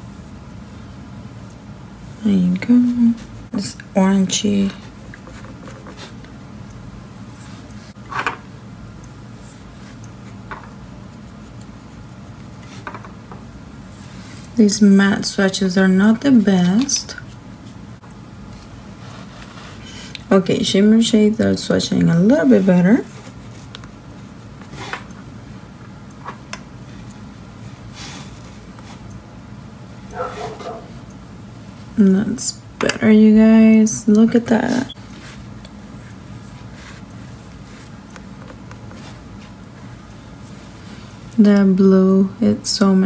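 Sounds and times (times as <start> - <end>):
low room hum: 0.0 - 43.0.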